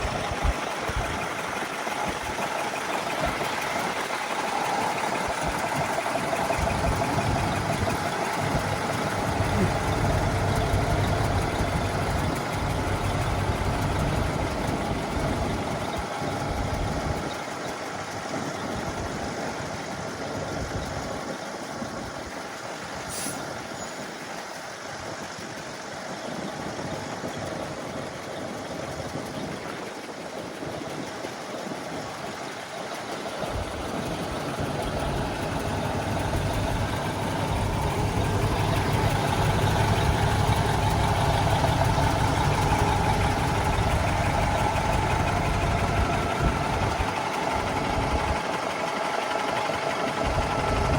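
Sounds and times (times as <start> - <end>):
truck engine rumbling: 0.0 - 50.9.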